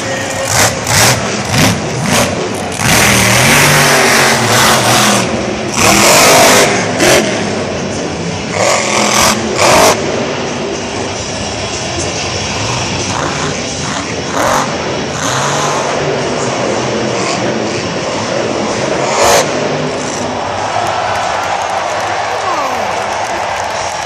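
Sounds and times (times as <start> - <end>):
truck engine revving hard: 0.0 - 20.8.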